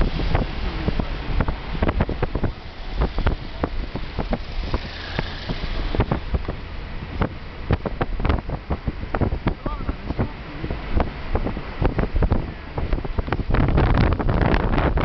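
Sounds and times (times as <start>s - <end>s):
car driving rumble: 0.0s - 15.0s
wind buffeting microphone: 0.0s - 15.0s.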